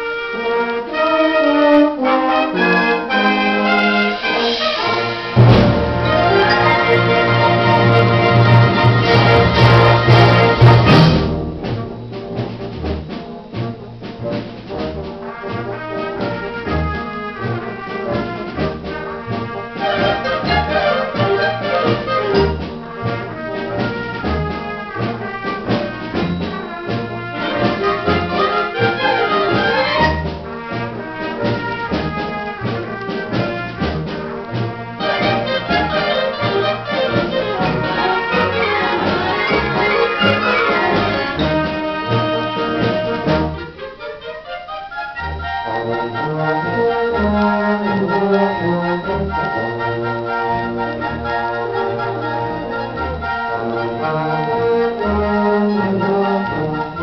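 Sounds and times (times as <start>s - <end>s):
concert wind band playing: 0.0s - 57.0s
trombones and trumpets: 0.0s - 57.0s.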